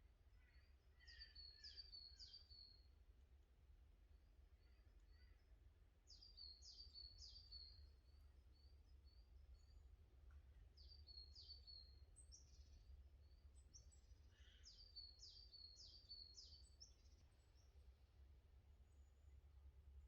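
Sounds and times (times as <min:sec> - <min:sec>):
faint songbird singing: 0:00.2 - 0:03.0, 0:04.4 - 0:20.0.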